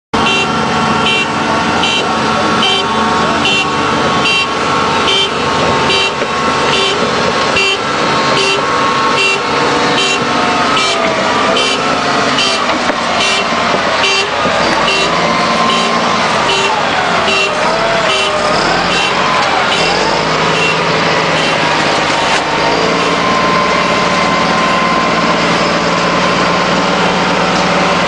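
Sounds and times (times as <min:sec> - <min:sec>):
diesel engine running: 0:00.1 - 0:28.0
warning alarm beeping: 0:00.2 - 0:26.2.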